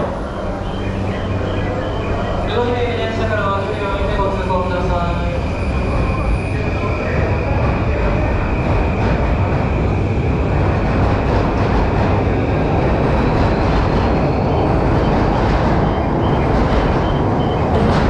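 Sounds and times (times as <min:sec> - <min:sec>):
electric train rumbling: 0:00.0 - 0:18.0
platform crowd hubbub: 0:00.0 - 0:18.0.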